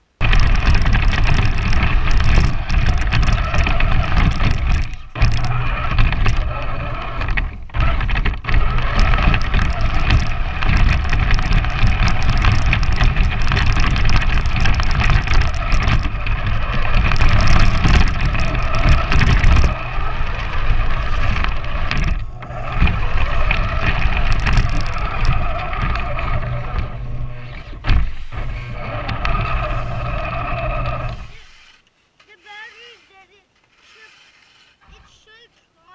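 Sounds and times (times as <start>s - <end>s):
low rumble from ride: 0.0s - 31.5s
electric motor whining: 0.2s - 31.9s.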